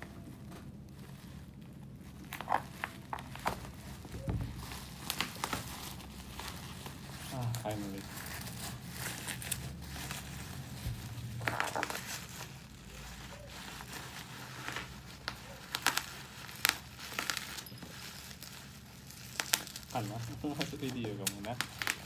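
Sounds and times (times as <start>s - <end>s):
plastic crackles: 0.0s - 22.0s
plastic packaging crinkling: 0.0s - 22.0s.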